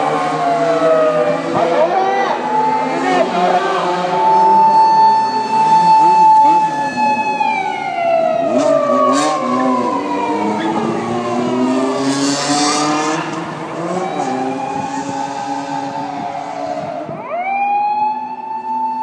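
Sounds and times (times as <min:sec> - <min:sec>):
motorcycle engines revving: 0:00.0 - 0:17.4
police siren wailing: 0:00.0 - 0:19.0.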